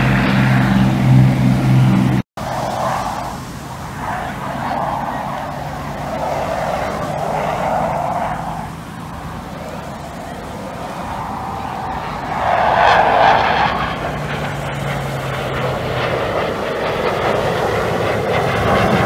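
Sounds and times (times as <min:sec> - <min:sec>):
aircraft piston engines droning: 0:00.0 - 0:19.0
wavering rushing noise: 0:00.0 - 0:19.0.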